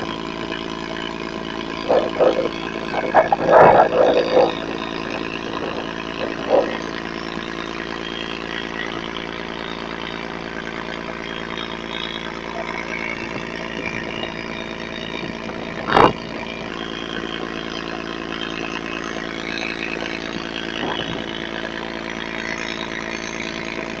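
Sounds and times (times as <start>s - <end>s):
boat engine running: 0.0s - 24.0s
wind: 0.0s - 24.0s
river water: 0.3s - 24.0s.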